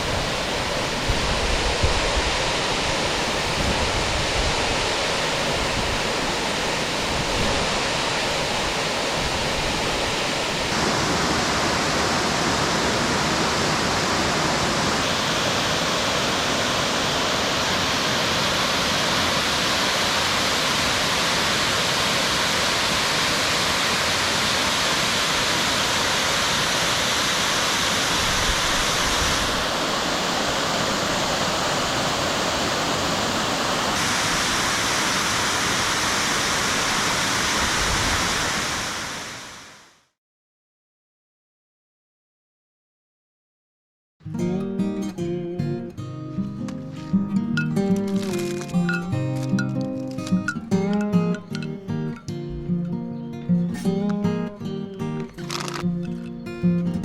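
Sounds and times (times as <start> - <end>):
waterfall rushing: 0.0 - 39.9, 46.4 - 57.0.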